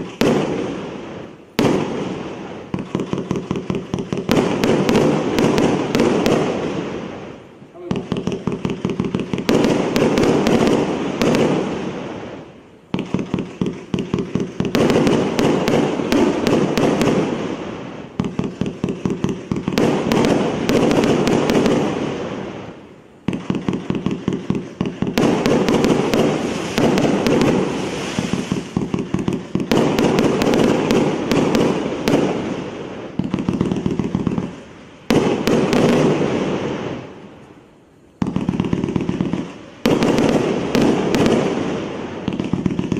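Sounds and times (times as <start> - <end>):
fireworks launching and bursting: 0.0 - 42.9.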